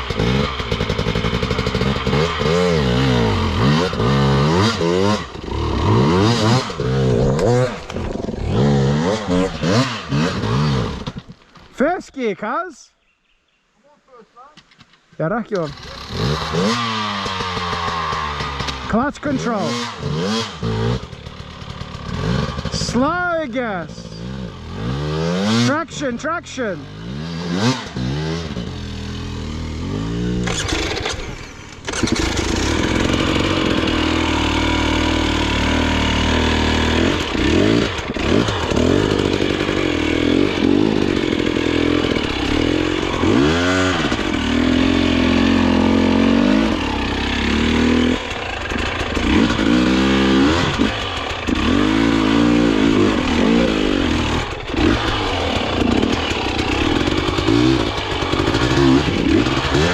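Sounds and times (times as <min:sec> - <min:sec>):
dirt bike engine revving: 0:00.0 - 0:11.3, 0:15.5 - 0:59.9.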